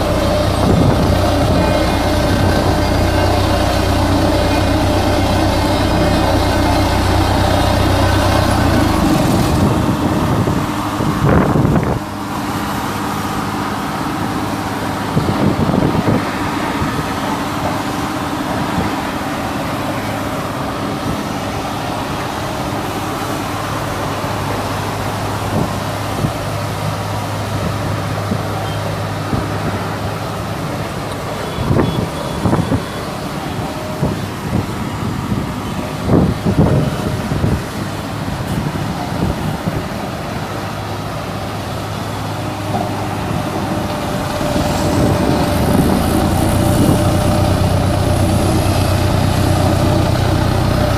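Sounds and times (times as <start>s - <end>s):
road roller engine running: 0.0s - 50.9s.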